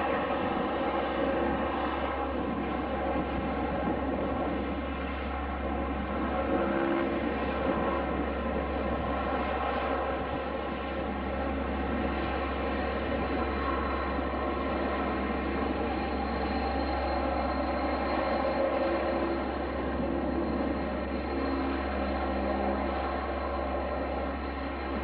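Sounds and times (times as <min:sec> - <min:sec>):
aircraft engines droning: 0:00.0 - 0:25.0
faint high whine: 0:00.0 - 0:25.0.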